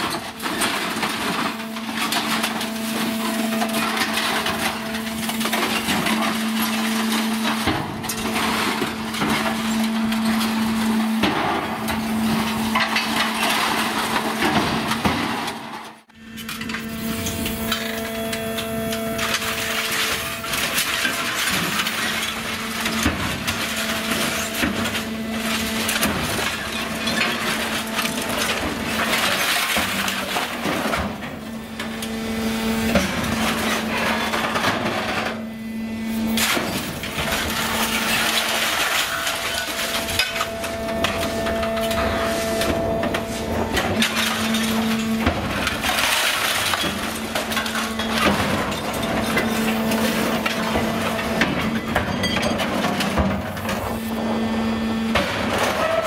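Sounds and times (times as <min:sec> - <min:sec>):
scrap metal clattering and crunching: 0:00.0 - 0:56.0.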